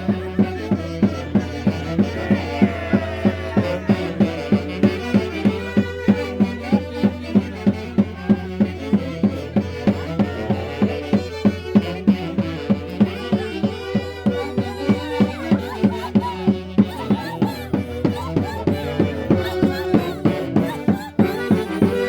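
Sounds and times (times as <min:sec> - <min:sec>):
steady drum beat: 0:00.0 - 0:22.0
violin melody: 0:00.0 - 0:22.0.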